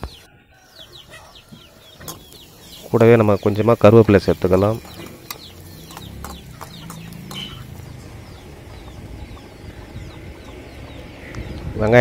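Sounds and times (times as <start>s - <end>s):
chickens clucking and peeping: 0.0s - 12.0s.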